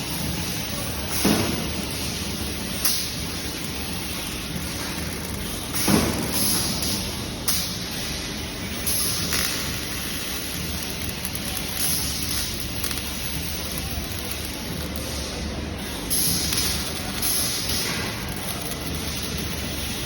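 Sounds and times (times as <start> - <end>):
robotic welding line noise: 0.0 - 20.0.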